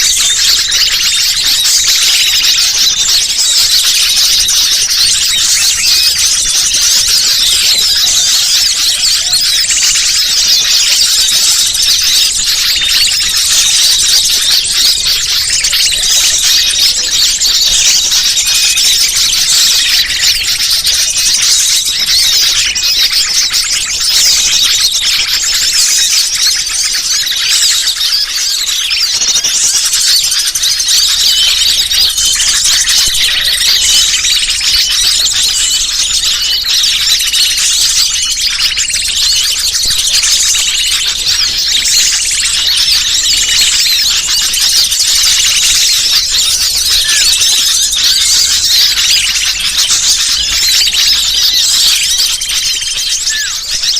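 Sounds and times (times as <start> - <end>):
small birds chirping and twittering: 0.0 - 53.9.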